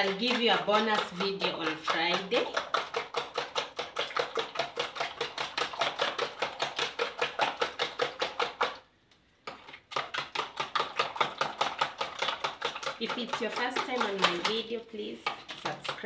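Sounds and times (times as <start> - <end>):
spoon clacking against plastic bowl: 0.0 - 8.8, 9.4 - 16.0.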